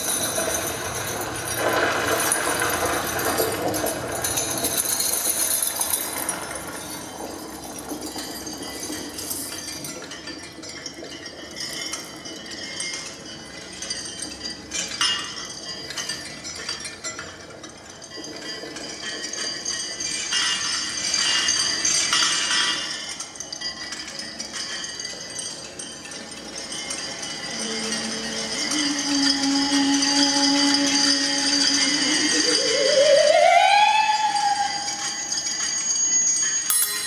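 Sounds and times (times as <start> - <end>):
small bells jangling: 0.0 - 33.5, 34.2 - 37.0.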